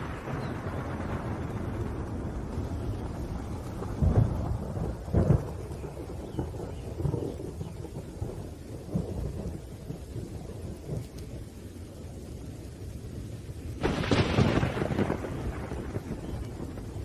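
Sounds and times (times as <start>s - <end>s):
loud thunderclap: 0.0s - 11.1s, 13.4s - 17.0s
low rumbling thunder: 0.0s - 17.0s
rain: 0.0s - 17.0s.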